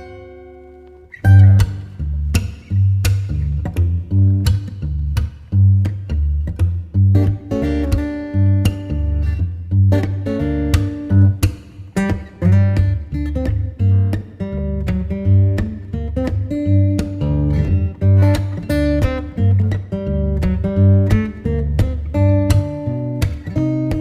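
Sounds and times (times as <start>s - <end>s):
plucked guitar music: 0.0s - 24.0s.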